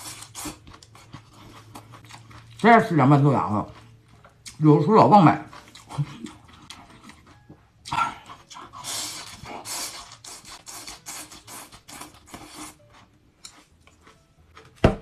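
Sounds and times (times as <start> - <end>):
chewing crisp bean sprouts: 0.0 - 14.8.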